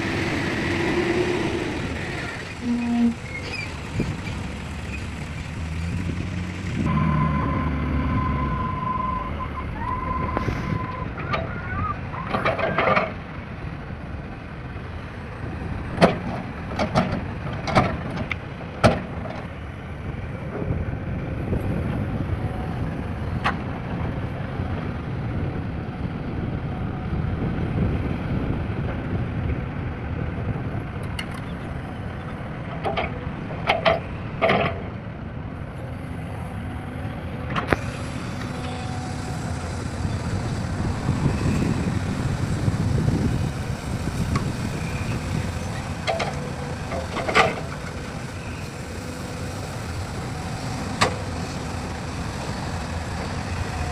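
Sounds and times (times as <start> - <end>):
heavy diesel machinery rumbling: 0.0 - 53.9.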